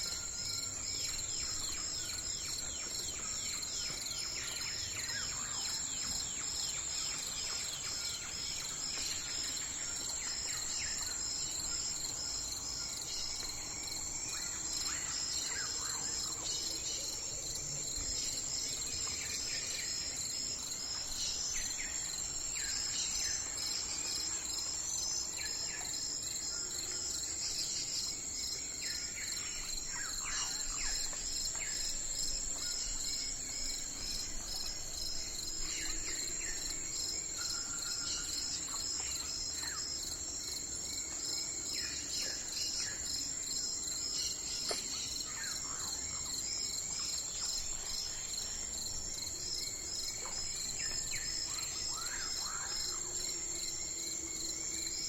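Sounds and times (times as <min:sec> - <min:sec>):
pulsing insect chorus: 0:00.0 - 0:55.0.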